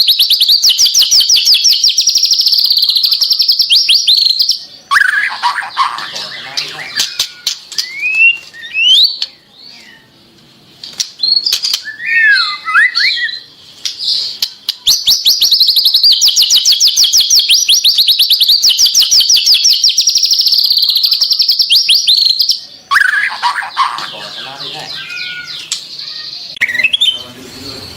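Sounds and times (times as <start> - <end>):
bird fast trill: 0.0 - 10.1, 11.2 - 27.9
bird singing whistled phrases: 0.0 - 10.1, 11.2 - 13.5, 14.7 - 23.5, 24.1 - 27.9.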